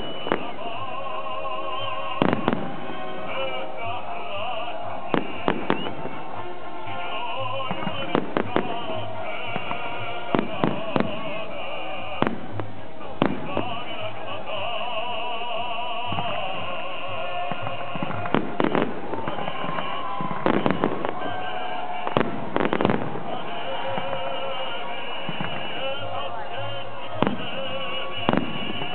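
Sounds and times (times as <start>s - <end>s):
firework bangs: 0.0s - 1.0s, 1.6s - 14.8s, 16.0s - 28.9s
music: 0.0s - 28.9s
wavering singing voice: 0.0s - 28.9s.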